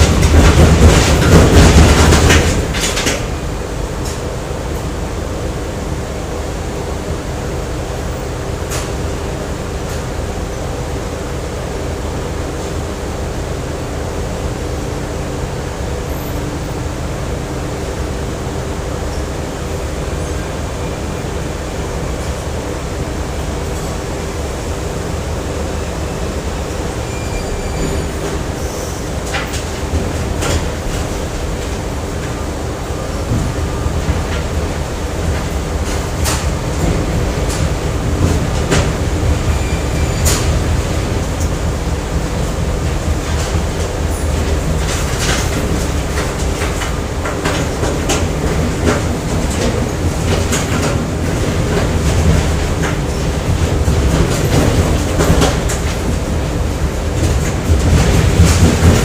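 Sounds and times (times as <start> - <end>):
factory machinery rumbling: 0.0 - 59.0.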